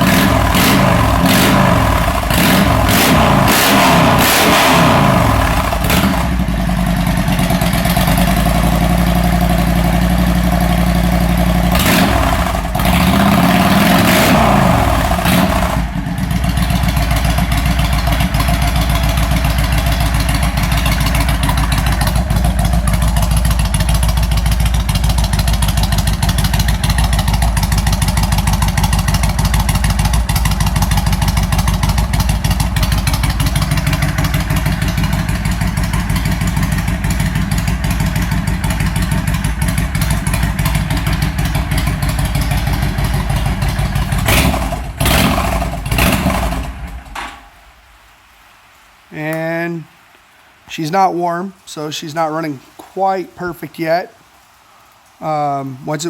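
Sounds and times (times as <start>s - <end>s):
motorcycle engine revving and idling: 0.0s - 47.4s.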